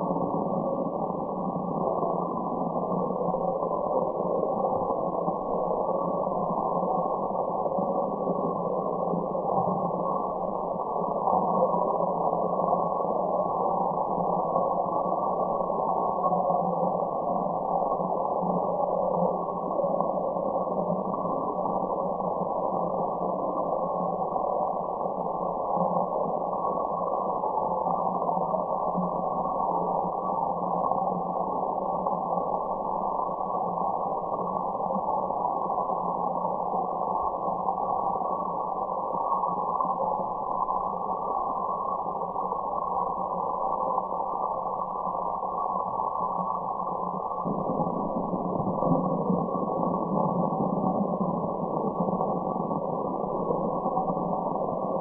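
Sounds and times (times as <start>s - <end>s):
muffled white noise hiss: 0.0s - 55.0s.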